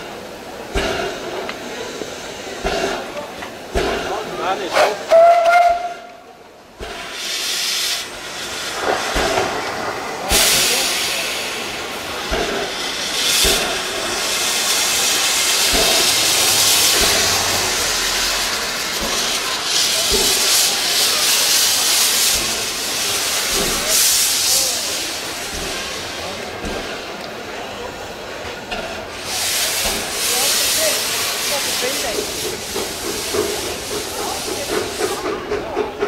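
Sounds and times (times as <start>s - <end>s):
steam hissing from locomotive: 0.0s - 36.0s.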